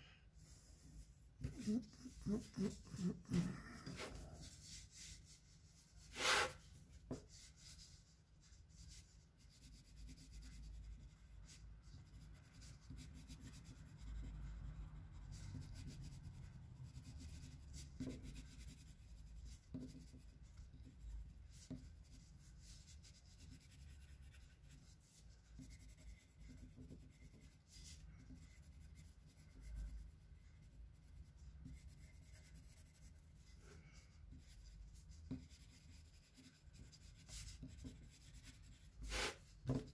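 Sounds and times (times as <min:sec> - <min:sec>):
pencil scratching on paper: 0:01.4 - 0:07.9, 0:08.7 - 0:39.9.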